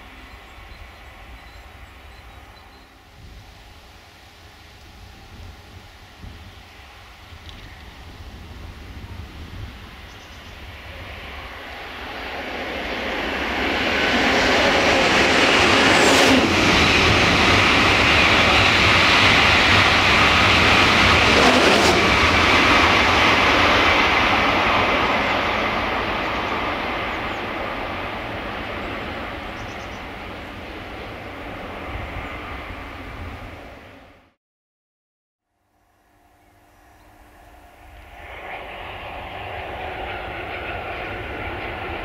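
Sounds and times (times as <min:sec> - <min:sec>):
train rushing past: 0:00.0 - 0:34.4, 0:36.5 - 0:42.0.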